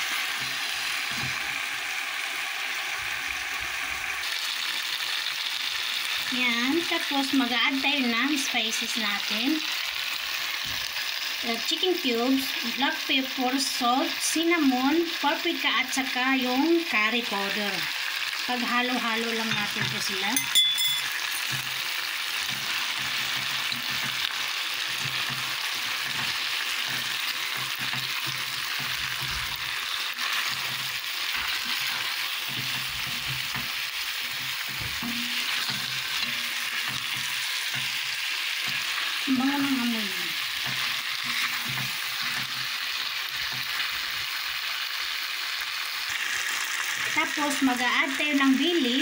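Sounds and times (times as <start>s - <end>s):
food sizzling in a pot: 0.0s - 49.0s.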